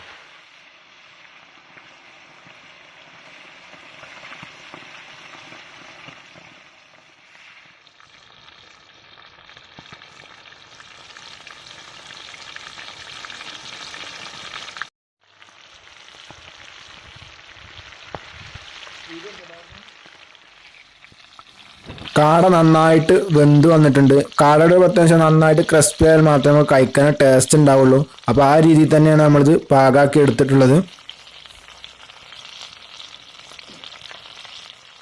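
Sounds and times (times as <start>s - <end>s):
deep-frying sizzle and crackle: 0.0s - 35.0s.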